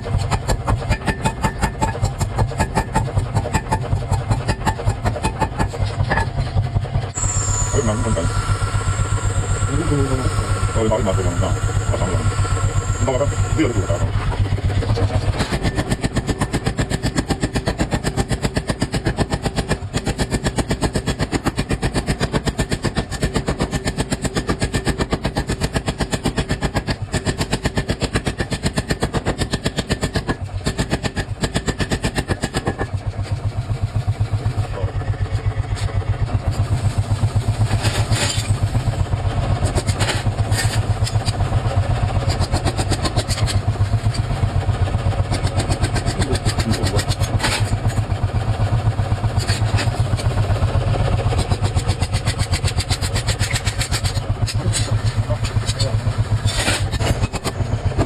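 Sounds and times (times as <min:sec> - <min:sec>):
power hammer pounding hot iron: 0:00.0 - 0:58.0.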